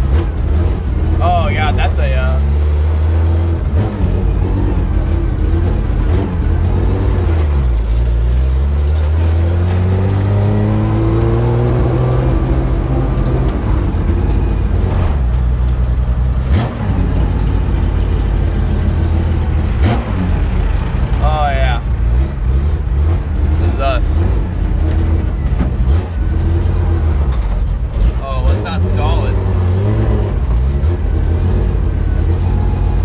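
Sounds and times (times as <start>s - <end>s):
race car engine from inside cabin: 0.0s - 33.0s.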